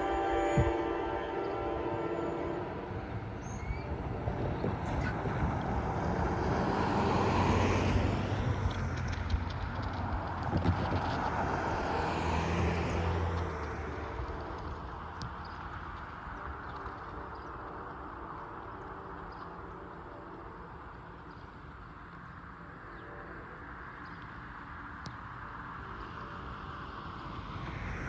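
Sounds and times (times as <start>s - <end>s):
passing train rumble: 0.0s - 28.0s.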